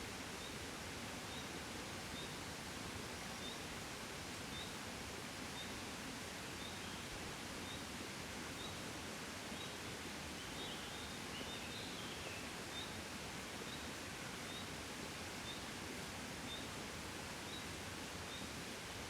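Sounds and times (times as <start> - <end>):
gentle breeze: 0.0 - 19.0.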